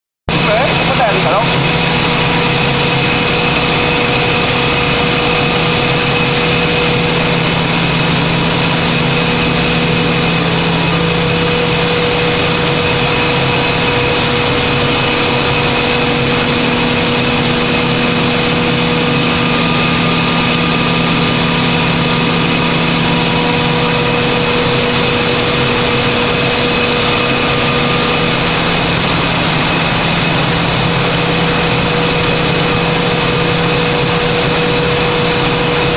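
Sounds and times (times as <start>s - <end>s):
compressed-air machine running: 0.3s - 35.9s.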